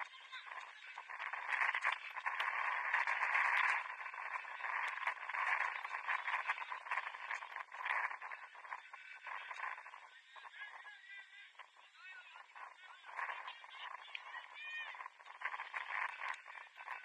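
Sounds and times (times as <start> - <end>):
noisy haze: 0.0 - 17.0.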